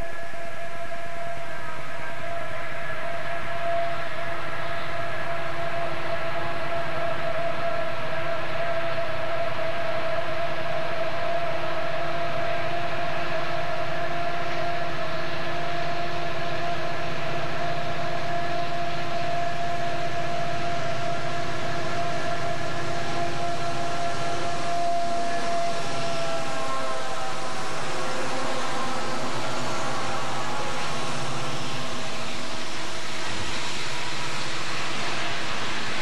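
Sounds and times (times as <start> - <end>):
diesel locomotive engine drone: 0.0 - 36.0
high engine whine: 0.0 - 36.0.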